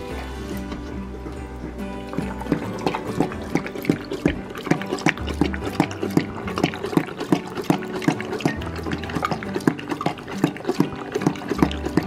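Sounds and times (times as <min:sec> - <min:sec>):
dog lapping water from metal bowl: 0:00.0 - 0:12.0.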